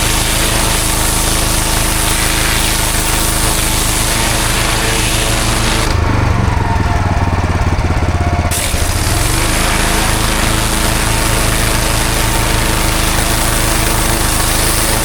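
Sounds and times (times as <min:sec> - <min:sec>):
high-pressure spray hissing on paving: 0:00.0 - 0:06.0, 0:08.5 - 0:15.0
pressure washer engine running: 0:00.0 - 0:15.0.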